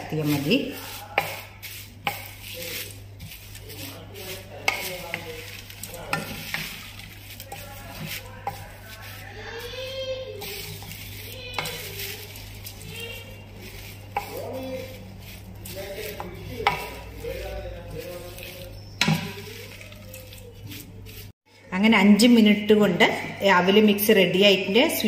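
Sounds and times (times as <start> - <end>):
spoon stirring dry flakes: 0.0 - 21.4.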